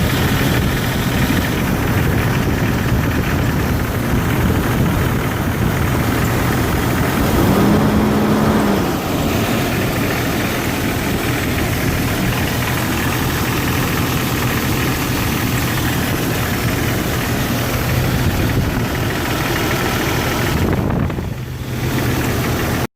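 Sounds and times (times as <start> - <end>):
car engine idling: 0.0 - 22.9
engine ticking: 0.0 - 22.9.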